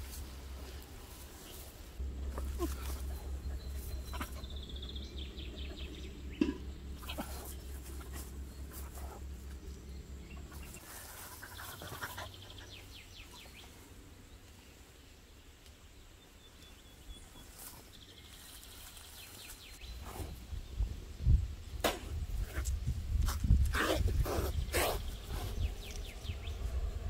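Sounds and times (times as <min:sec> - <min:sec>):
songbirds trilling: 0:00.0 - 0:21.8, 0:22.4 - 0:27.0
low hum: 0:00.0 - 0:27.0.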